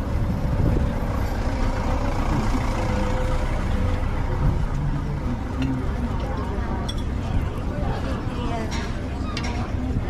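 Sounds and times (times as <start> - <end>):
heavy vehicle engine rumbling: 0.0 - 10.0.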